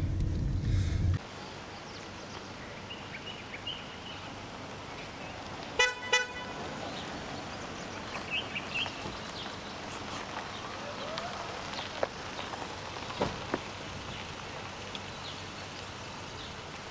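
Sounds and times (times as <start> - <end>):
steady outdoor hiss: 0.0 - 16.9.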